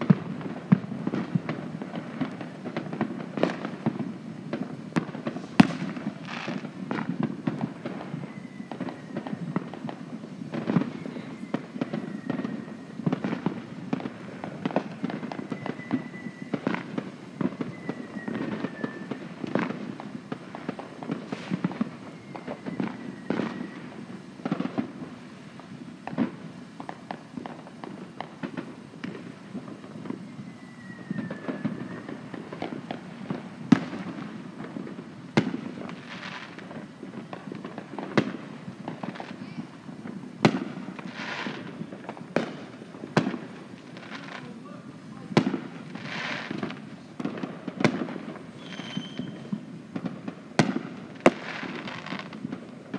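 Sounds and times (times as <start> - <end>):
firework whistle: 0.0 - 52.9
fireworks bangs and pops: 0.0 - 52.9.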